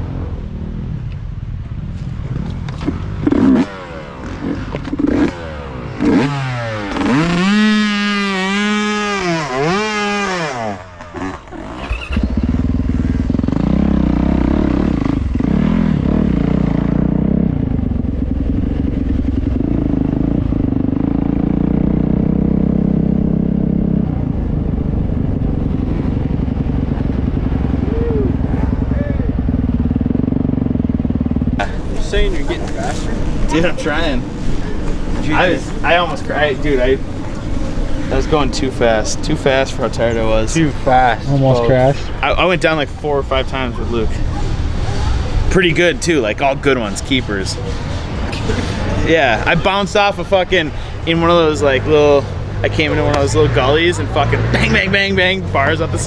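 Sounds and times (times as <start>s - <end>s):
dirt bike engine revving: 2.2s - 56.0s.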